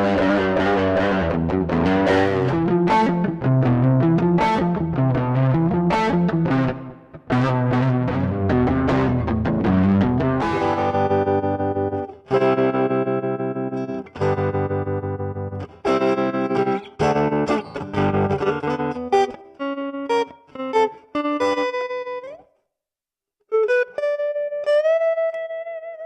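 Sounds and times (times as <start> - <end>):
electric guitar with tremolo: 0.0 - 22.5, 23.5 - 26.0.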